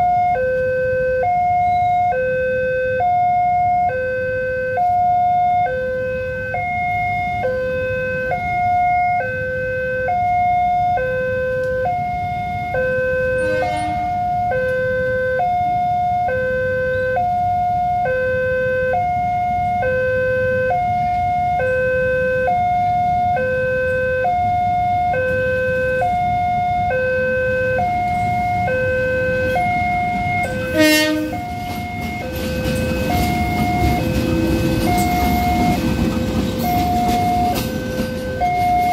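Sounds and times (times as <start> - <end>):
two-tone crossing warning bell: 0.0 - 38.9.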